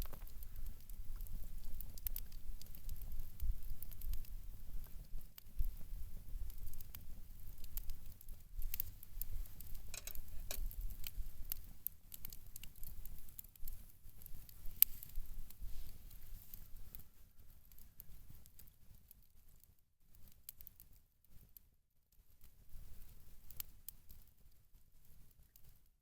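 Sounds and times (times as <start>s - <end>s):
campfire crackling and popping: 0.0s - 25.9s.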